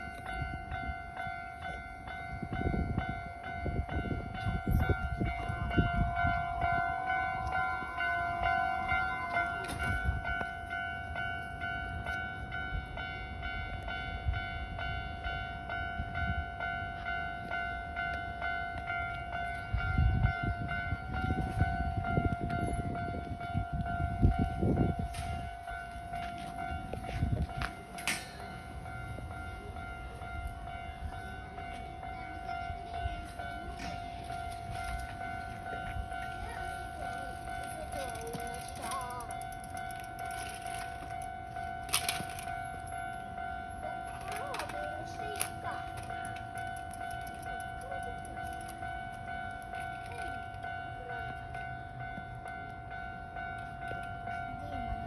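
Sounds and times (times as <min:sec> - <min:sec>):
level crossing warning bell: 0:00.0 - 0:55.0
trains rumbling past: 0:00.0 - 0:55.0.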